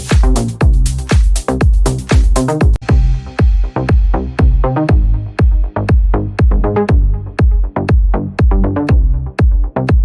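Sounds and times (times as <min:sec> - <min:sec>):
bass line: 0:00.0 - 0:10.0
electronic dance music: 0:00.0 - 0:10.0
heavy kick drum: 0:00.0 - 0:10.0.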